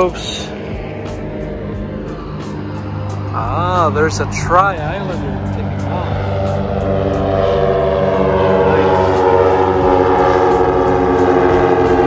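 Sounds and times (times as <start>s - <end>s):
propeller plane droning overhead: 0.0s - 12.0s.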